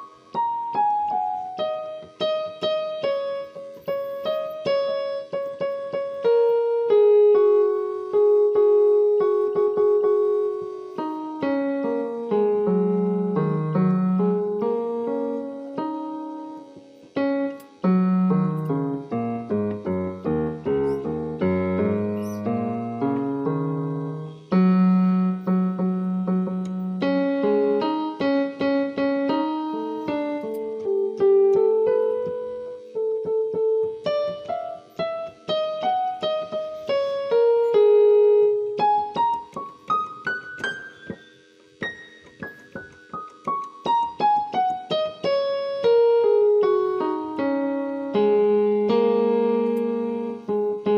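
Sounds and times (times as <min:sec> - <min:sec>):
piano music: 0:00.0 - 0:50.9.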